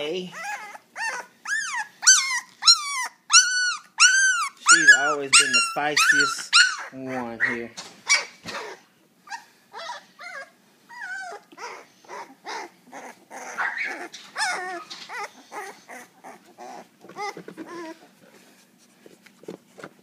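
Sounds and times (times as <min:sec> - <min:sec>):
puppy whining and squealing: 0:00.0 - 0:18.4.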